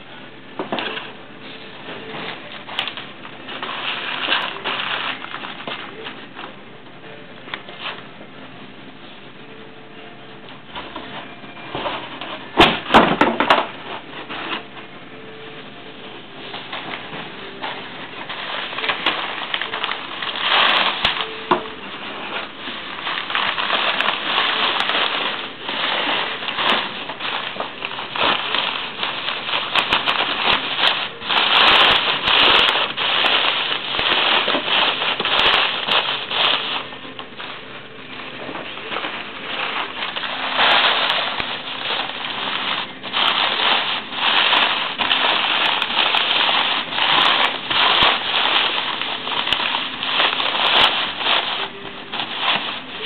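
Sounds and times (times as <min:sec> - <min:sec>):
plastic wrap crinkling: 0:00.0 - 0:53.0
cardboard scraping: 0:00.6 - 0:06.6, 0:10.7 - 0:15.6, 0:16.2 - 0:53.0.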